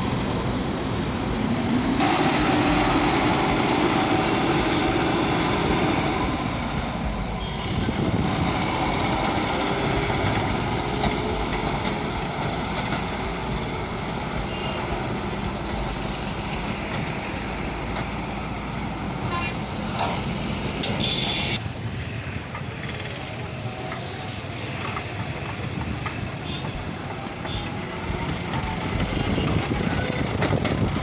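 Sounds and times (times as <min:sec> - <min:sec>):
diesel engine running: 0:00.0 - 0:21.6, 0:23.0 - 0:31.0.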